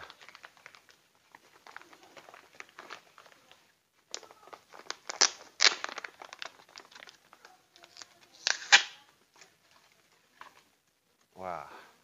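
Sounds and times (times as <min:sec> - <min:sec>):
plastic bags crinkling: 0:00.0 - 0:10.7.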